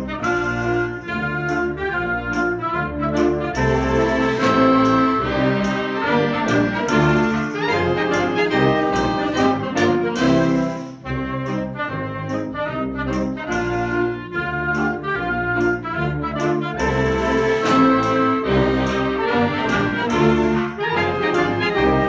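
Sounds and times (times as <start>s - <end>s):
wind band playing: 0.0s - 22.0s.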